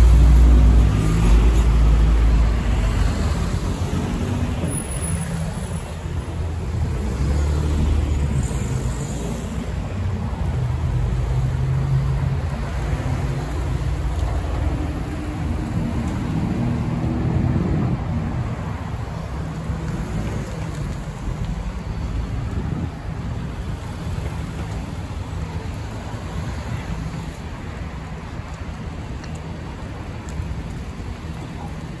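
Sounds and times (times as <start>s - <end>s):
cars passing close by: 0.0s - 32.0s
tyres rumbling on road: 0.0s - 32.0s.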